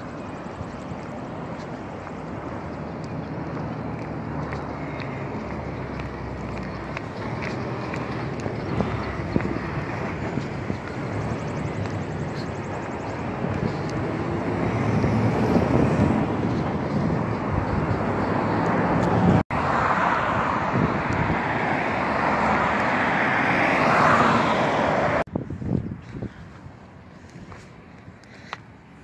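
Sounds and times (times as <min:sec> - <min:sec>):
wind on microphone: 0:00.0 - 0:28.3
passing vehicles: 0:00.0 - 0:29.0.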